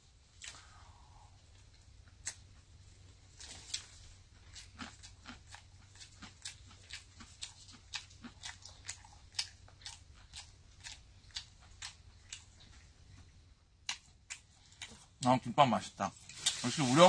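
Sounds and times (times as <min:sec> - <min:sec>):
person chewing crunchy food: 0:01.4 - 0:15.2.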